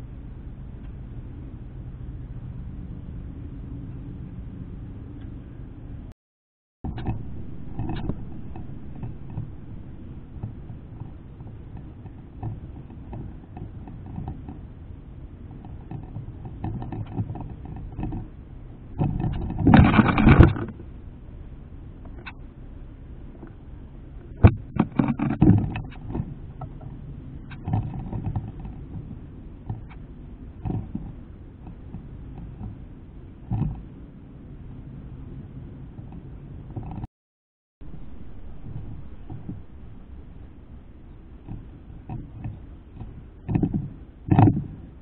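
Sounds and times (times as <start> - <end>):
low rumble: 0.0 - 6.2, 6.8 - 37.1, 37.8 - 45.0.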